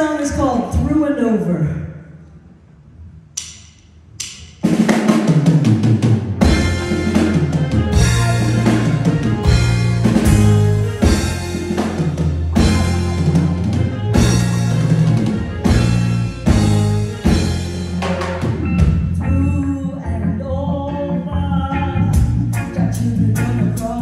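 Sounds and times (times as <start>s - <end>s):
reggae band playing: 4.5s - 24.0s.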